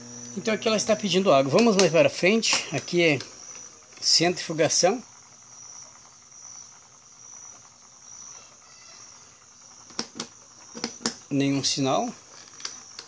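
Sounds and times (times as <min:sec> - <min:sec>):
faint high-pitched chirring: 0:00.0 - 0:13.0.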